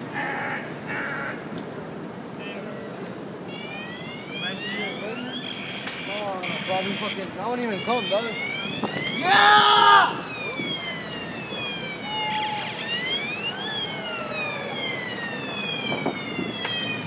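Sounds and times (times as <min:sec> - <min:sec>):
siren wailing: 0:02.2 - 0:17.0.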